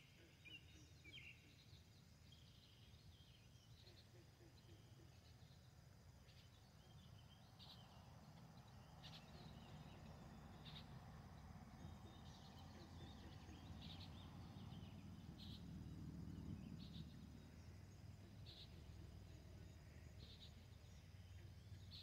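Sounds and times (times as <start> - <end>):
high insect drone: 0.0 - 22.0
low background noise: 0.0 - 22.0.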